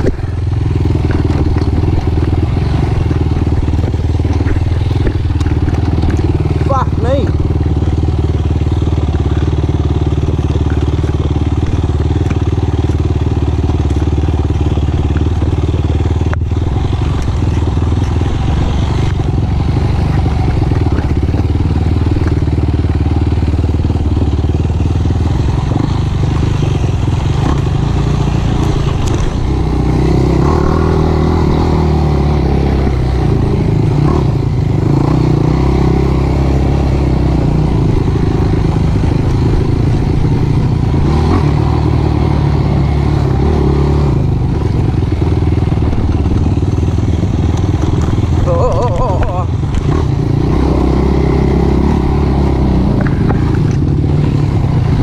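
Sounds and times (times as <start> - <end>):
ride clatter: 0.0 - 51.1, 51.8 - 55.0
quad engine running: 0.0 - 55.0.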